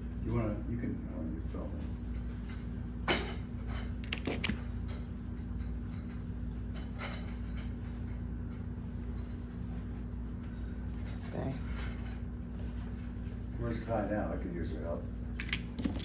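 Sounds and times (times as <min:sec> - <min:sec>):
comb scraping clicks in dog fur: 0:00.0 - 0:16.0
steady low hum: 0:00.0 - 0:16.0.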